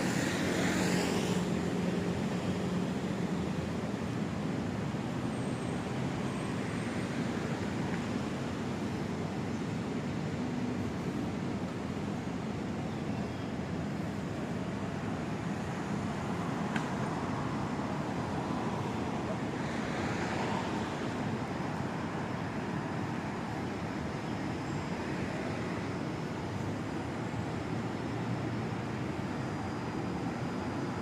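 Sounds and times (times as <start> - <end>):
city traffic hum: 0.0 - 31.0.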